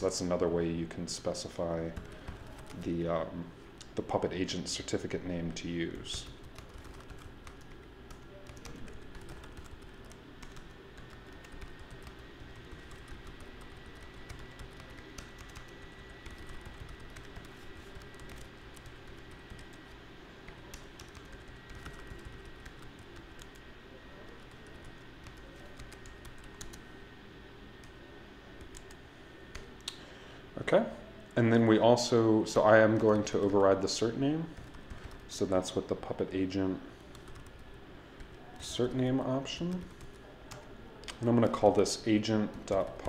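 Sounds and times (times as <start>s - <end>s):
low background hum: 0.0s - 43.0s.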